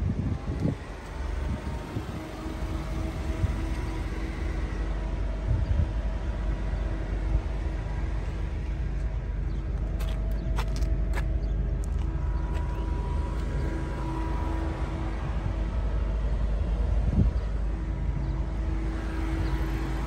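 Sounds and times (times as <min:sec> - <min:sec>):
car engine idling: 0:00.1 - 0:20.0.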